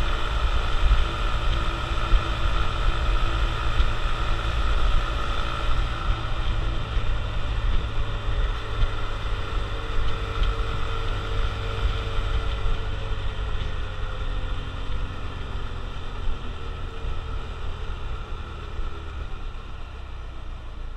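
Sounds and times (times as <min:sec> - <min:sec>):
motorcycle engine running: 0:00.0 - 0:20.9
road and wind noise: 0:00.0 - 0:20.9.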